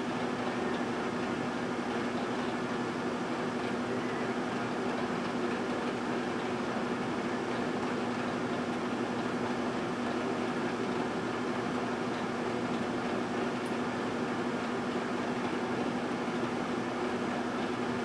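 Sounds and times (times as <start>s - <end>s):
fan noise: 0.0s - 18.0s
microwave electrical hum: 0.0s - 18.0s.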